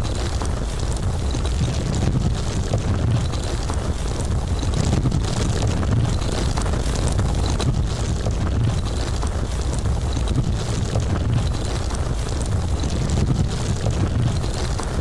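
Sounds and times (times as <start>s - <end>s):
deep rumble of landslide: 0.0s - 15.0s
faint ticks of rock: 0.0s - 15.0s.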